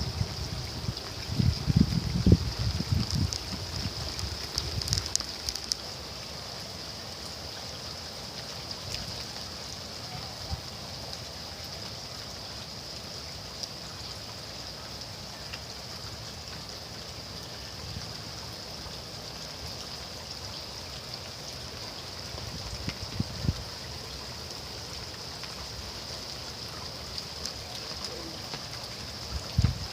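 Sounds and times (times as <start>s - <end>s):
rain falling: 0.0s - 29.9s.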